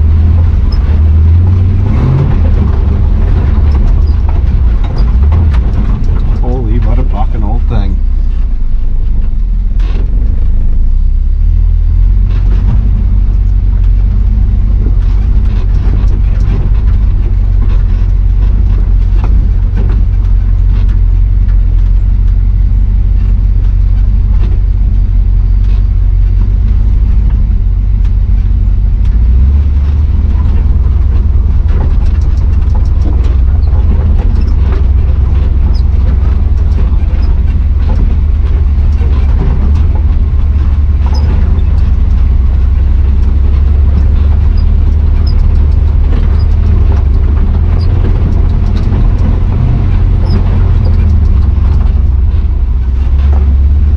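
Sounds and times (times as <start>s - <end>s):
knocks and rattles: 0.0s - 10.5s, 12.1s - 53.9s
engine low drone: 0.0s - 53.9s.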